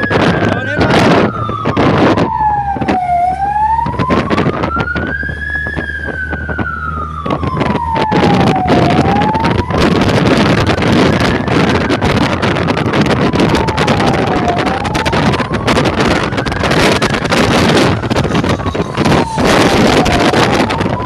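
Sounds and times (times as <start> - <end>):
emergency siren wailing: 0.0 - 21.0
vehicle engine rumble: 0.0 - 21.0
wind buffeting microphone: 0.0 - 21.0.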